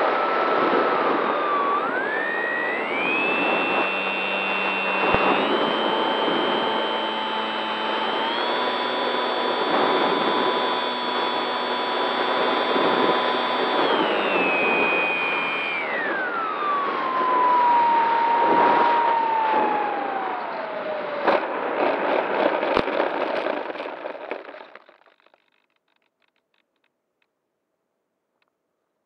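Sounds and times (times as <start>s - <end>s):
electric motor whine: 0.0s - 25.6s.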